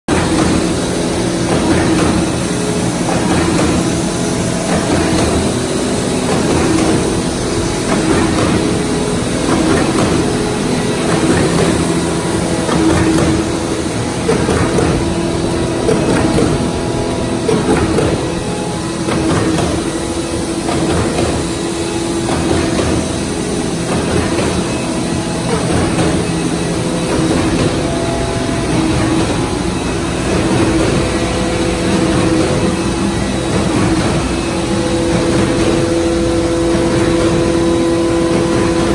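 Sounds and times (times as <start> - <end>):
machinery humming: 0.1 - 38.9
mechanical clatter: 0.1 - 38.9.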